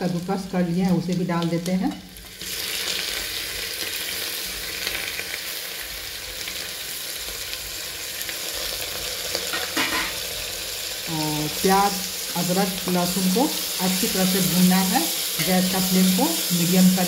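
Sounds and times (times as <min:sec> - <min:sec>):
oil sizzling in a pot: 0:00.0 - 0:17.0.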